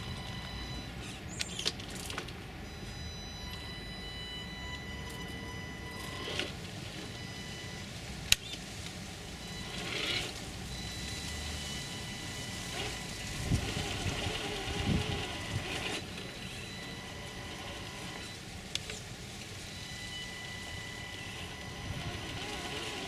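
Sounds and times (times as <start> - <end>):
electric motor whining: 0.0 - 8.6, 9.3 - 19.0, 19.6 - 23.0.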